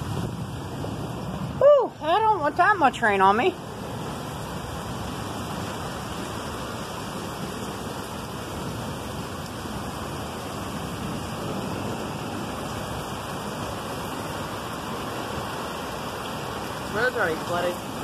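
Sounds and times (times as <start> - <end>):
heavy rain on pavement: 0.0 - 18.0.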